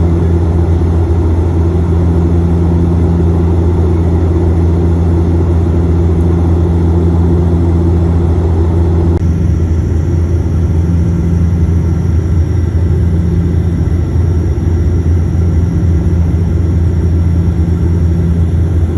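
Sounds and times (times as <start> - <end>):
airliner cabin drone: 0.0 - 18.9.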